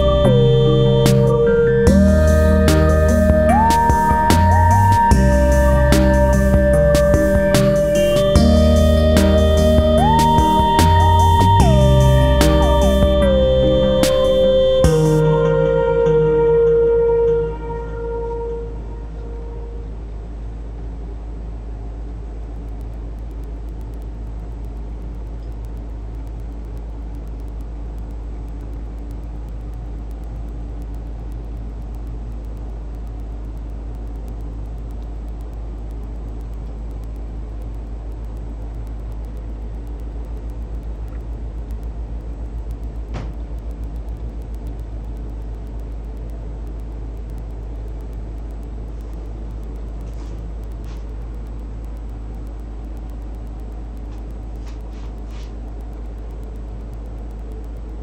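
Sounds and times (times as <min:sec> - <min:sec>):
low hum: 0:00.0 - 0:58.0.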